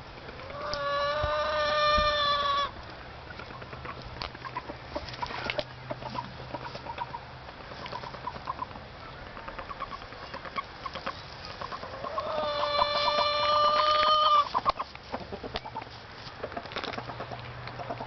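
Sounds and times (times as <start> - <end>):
rooster clucking and calling: 0.4 - 2.8, 3.5 - 18.0.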